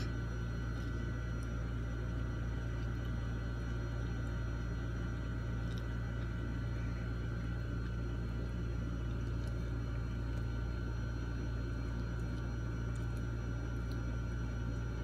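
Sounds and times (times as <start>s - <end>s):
low hum and drone: 0.0s - 15.0s.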